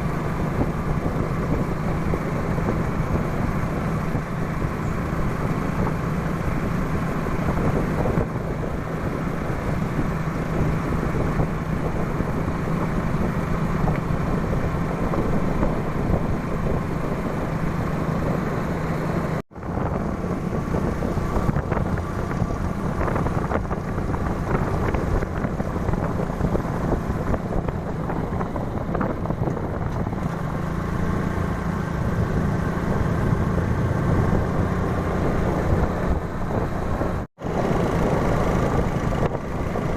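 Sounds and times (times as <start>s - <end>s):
motorbike engine running: 0.0s - 39.9s
wind noise on microphone: 0.0s - 39.9s.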